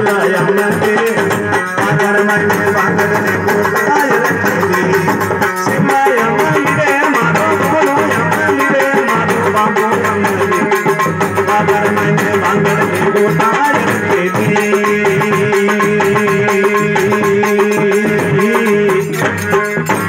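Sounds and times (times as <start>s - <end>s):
hand drum steady beat: 0.0s - 20.0s.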